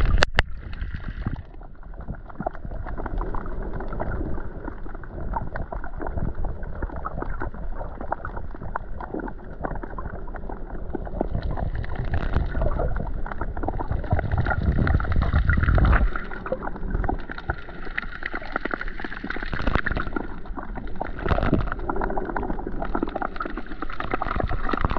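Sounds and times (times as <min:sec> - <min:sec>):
fine crackles and clicks: 0:00.0 - 0:24.9
underwater sloshing and gurgling: 0:00.0 - 0:24.9.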